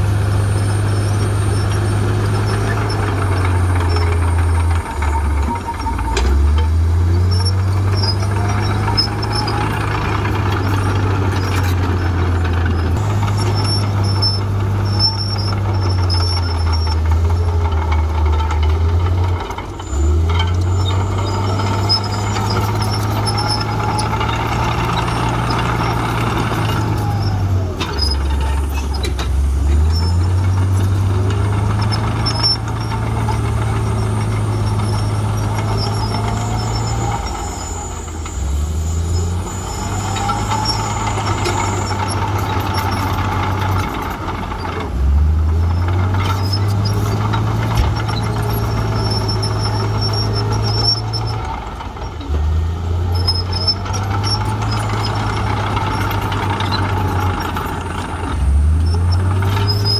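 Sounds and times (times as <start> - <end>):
diesel engines of earthmovers: 0.0 - 59.9.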